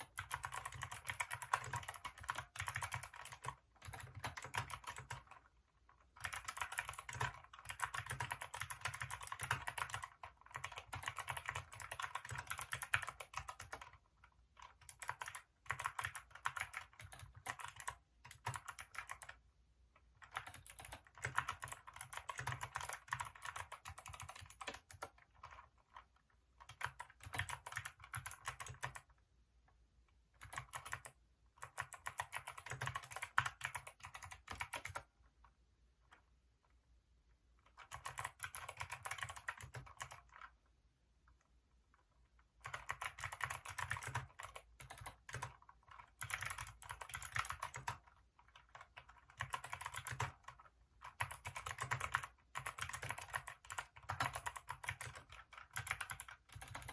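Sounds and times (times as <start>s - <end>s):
fast keyboard typing: 0.0s - 19.4s, 20.1s - 29.2s, 30.4s - 35.2s, 37.6s - 40.6s, 42.6s - 56.9s.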